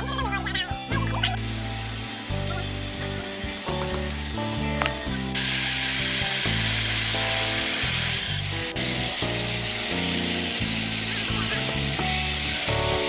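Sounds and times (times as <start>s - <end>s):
background music: 0.0s - 13.0s
band saw cutting wood: 0.0s - 13.0s.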